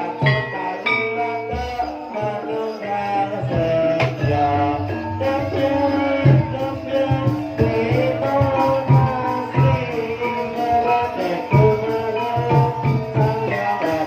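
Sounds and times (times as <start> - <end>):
wavering melody: 0.0 - 14.0.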